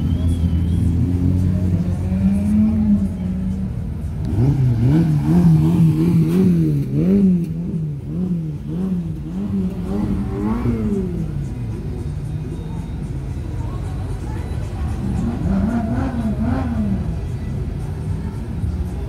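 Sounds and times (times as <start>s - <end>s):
sports car engines revving: 0.0s - 19.0s.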